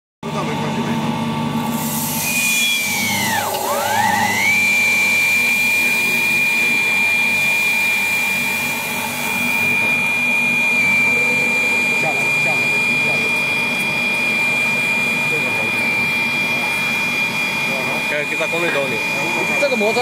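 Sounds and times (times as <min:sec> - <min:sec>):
mill running with high whine: 0:00.3 - 0:20.0.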